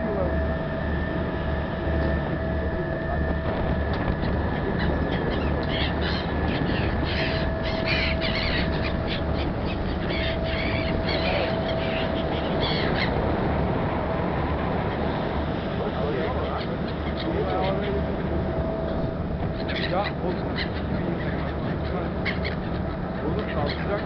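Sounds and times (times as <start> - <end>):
ferry engine drone: 0.0 - 24.0
gulls calling: 0.0 - 24.0.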